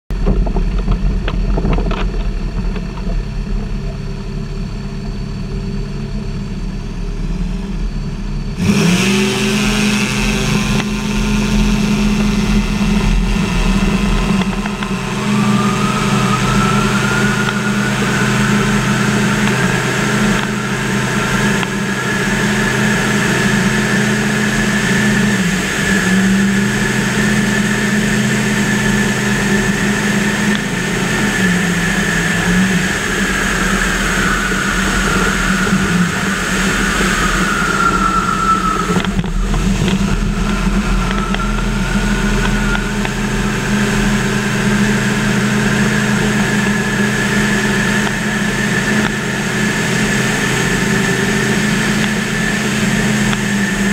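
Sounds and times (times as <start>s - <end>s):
propeller engine running: 0.0s - 53.9s
steady high whine: 0.1s - 53.9s.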